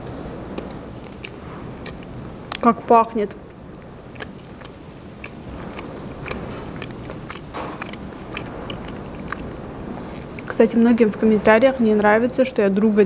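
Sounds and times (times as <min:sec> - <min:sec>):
wet chewing mouth sounds: 0:00.0 - 0:13.0.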